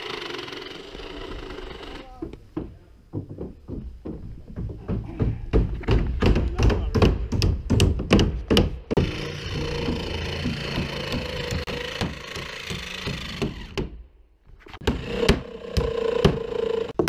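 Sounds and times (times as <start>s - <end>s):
hammers driving nails into wood: 2.6s - 14.0s, 14.8s - 17.0s.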